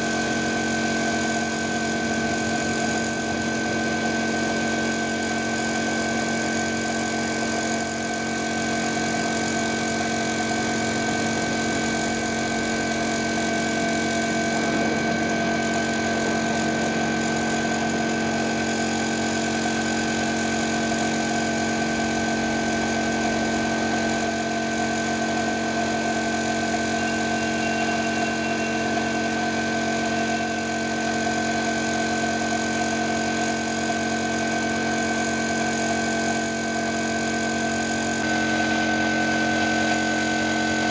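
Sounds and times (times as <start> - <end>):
air compressor humming: 0.0 - 40.9
spray gun air hissing: 0.0 - 40.9.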